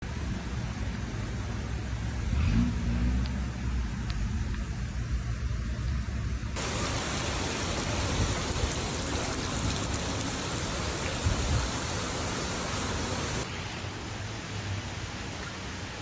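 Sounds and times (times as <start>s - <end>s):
heavy rain pouring: 0.3s - 16.0s.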